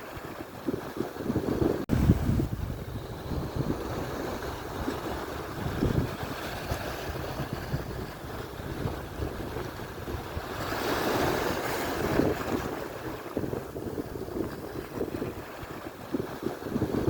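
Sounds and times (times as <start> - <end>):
waves washing on shore: 0.0 - 17.0
wind buffeting microphone: 0.0 - 17.0.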